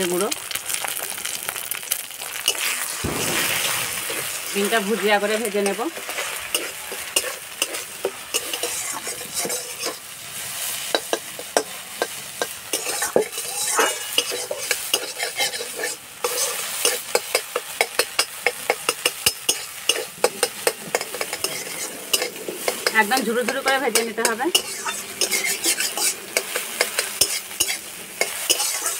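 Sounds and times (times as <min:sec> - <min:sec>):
eggs sizzling in oil: 0:00.0 - 0:28.9
metal spatula scraping pan: 0:02.5 - 0:10.1, 0:10.7 - 0:28.9.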